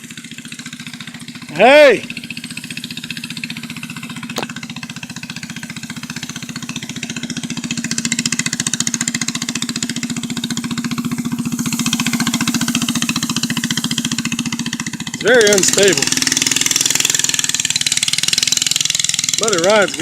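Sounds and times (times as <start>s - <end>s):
small engine running at idle: 0.0s - 20.0s.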